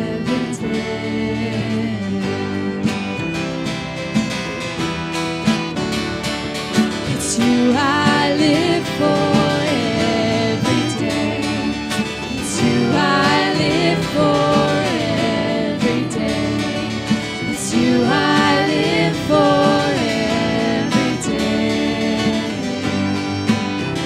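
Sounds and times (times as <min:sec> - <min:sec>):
bowed violin melody: 0:00.0 - 0:24.0
strummed guitars: 0:00.0 - 0:24.0.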